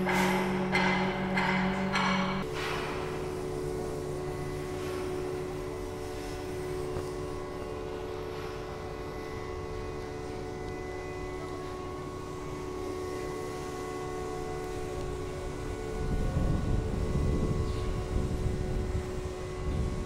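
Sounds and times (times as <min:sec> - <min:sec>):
heavy crane machinery droning: 0:00.0 - 0:20.0.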